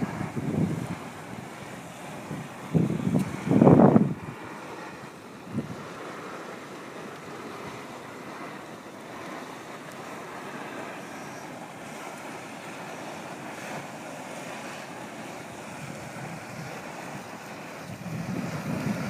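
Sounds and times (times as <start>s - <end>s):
steam vents hissing: 0.0s - 19.0s
wind buffeting microphone: 0.0s - 19.0s.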